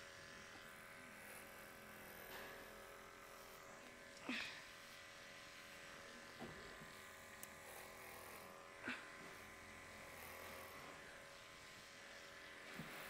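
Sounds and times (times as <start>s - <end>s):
electric clippers buzzing: 0.0s - 13.0s.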